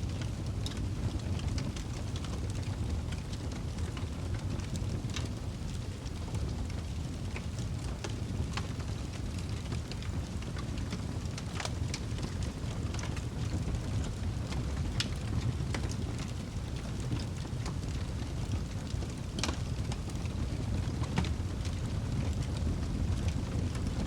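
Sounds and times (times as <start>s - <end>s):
fire flames rumbling: 0.0s - 24.0s
wood crackling and popping: 0.0s - 24.0s.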